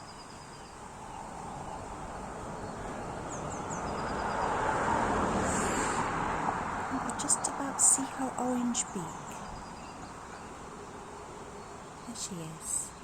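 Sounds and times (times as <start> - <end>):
passing vehicle road noise: 0.7 - 12.6.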